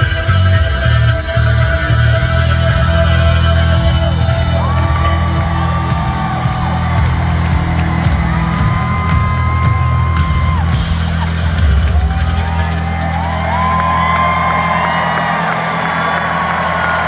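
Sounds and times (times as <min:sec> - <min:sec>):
heavy bass line: 0:00.0 - 0:17.0
live rock band: 0:00.0 - 0:17.0.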